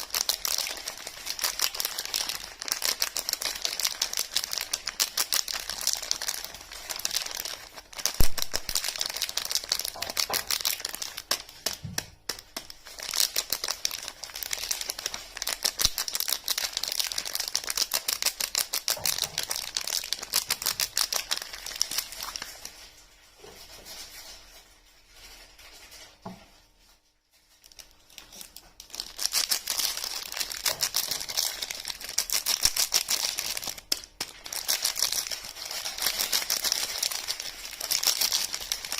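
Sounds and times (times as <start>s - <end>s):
packaging crinkling and tearing: 0.0s - 26.7s, 27.3s - 38.9s.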